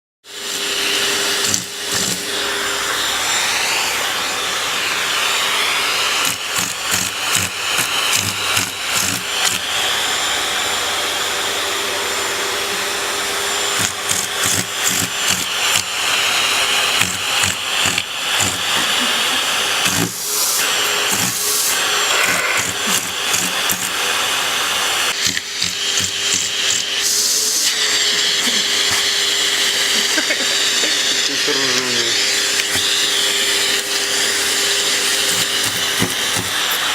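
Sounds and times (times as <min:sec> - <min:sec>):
vacuum cleaner whining: 0:00.3 - 0:36.9.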